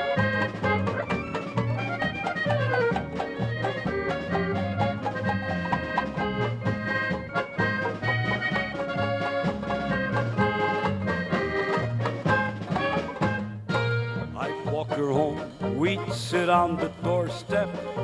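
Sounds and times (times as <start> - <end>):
accordion lead: 0.0 - 18.0
polka band playing: 0.0 - 18.0.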